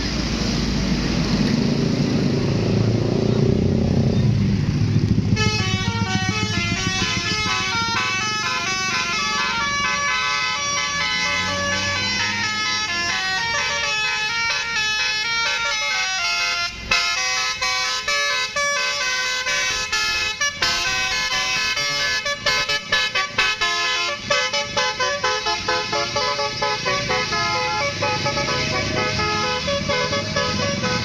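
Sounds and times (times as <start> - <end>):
bus engine rumble: 0.0 - 31.0
multi-tone musical air horn: 5.3 - 31.0.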